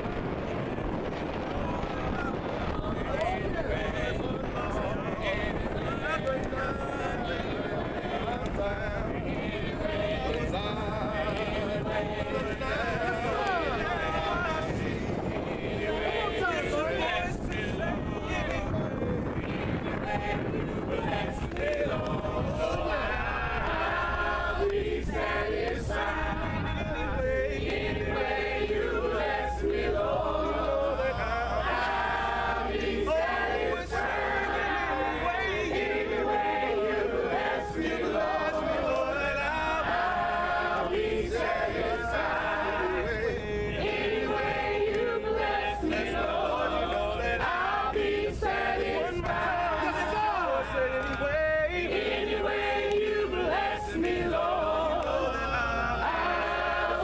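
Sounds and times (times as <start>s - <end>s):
group singing gospel a cappella: 0.0s - 57.0s.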